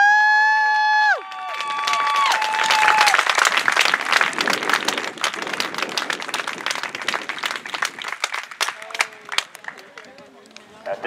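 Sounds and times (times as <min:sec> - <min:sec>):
crowd applause: 0:00.7 - 0:11.0.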